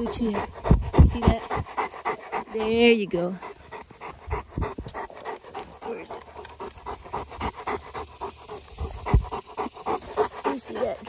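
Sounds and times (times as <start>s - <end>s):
dog panting hard: 0.0s - 11.0s.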